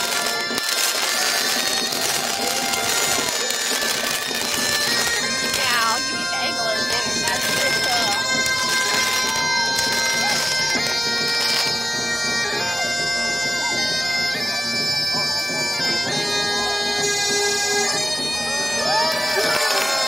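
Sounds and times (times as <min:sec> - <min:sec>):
bagpipes playing slow tune: 0:00.0 - 0:20.0
faint crowd voices: 0:00.0 - 0:20.0.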